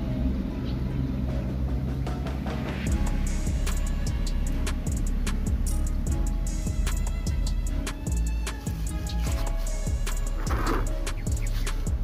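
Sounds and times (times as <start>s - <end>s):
background music with low bass: 0.0s - 12.0s.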